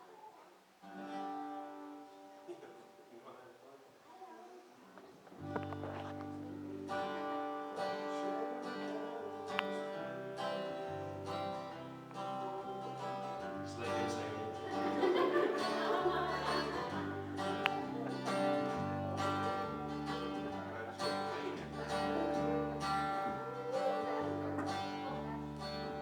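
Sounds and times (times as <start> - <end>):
guitar playing chords: 0.8 - 2.7, 5.4 - 26.0.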